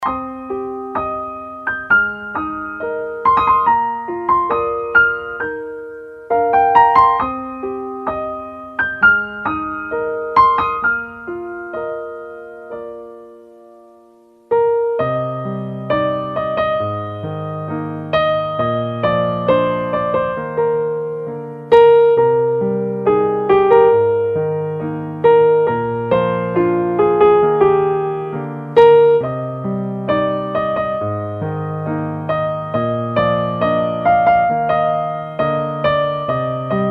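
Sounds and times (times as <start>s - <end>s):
slow solo piano: 0.0s - 36.9s.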